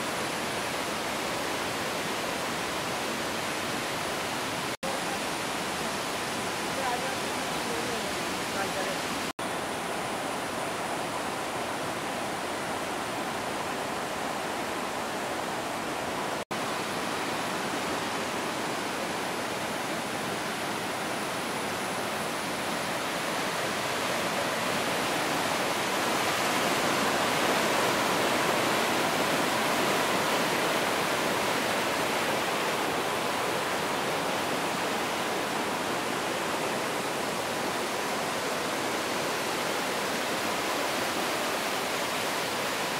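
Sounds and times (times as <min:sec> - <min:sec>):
river rushing over rapids: 0:00.0 - 0:42.9.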